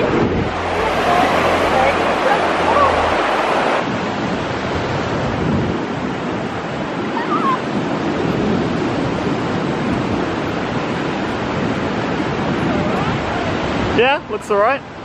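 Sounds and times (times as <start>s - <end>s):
ocean waves breaking: 0.0s - 15.0s
wind on microphone: 0.0s - 15.0s.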